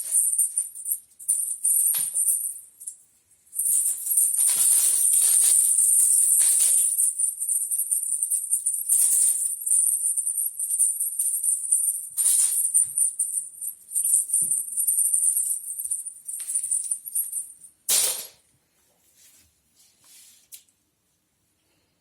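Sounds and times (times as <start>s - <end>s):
small bells jingling: 0.0s - 17.7s.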